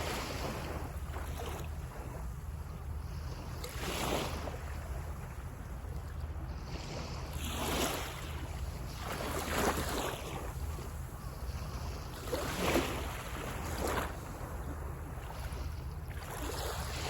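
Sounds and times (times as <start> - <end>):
small waves breaking on sand: 0.0 - 2.5, 3.1 - 17.0
wind rumble on microphone: 0.0 - 17.0.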